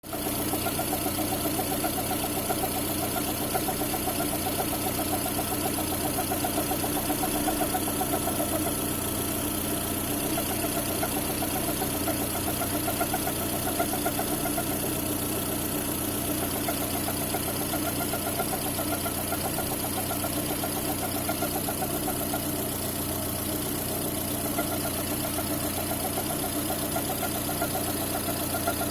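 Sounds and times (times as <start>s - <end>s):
constant whistle: 0.0s - 23.2s, 24.0s - 28.9s
car engine idling: 0.0s - 28.9s.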